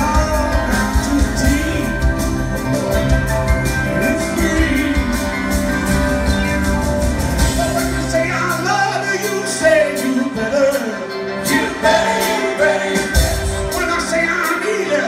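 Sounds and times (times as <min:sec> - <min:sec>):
man singing: 0:00.0 - 0:02.9, 0:03.6 - 0:06.0, 0:07.6 - 0:15.0
live rock band: 0:00.0 - 0:15.0.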